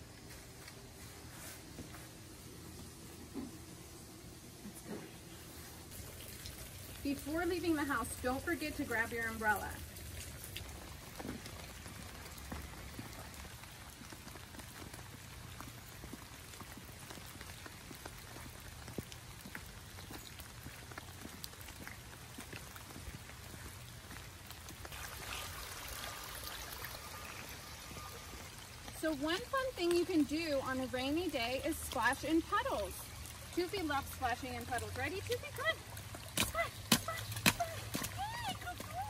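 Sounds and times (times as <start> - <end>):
rain on pavement and leaves: 0.0 - 39.0
runoff water rushing: 0.0 - 39.0.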